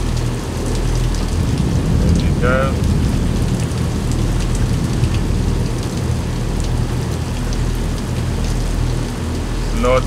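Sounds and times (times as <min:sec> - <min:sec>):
heavy rain: 0:00.0 - 0:10.0
low rumble: 0:00.8 - 0:09.6.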